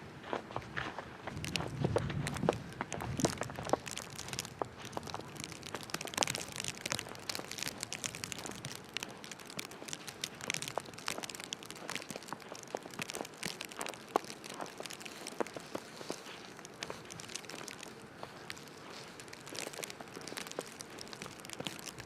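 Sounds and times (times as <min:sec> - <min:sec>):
footsteps crunching on snow: 0:00.2 - 0:22.0.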